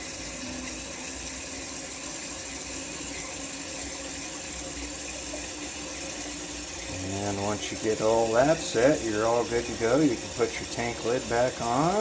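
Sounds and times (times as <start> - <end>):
toilet tank refilling: 0.0 - 12.0.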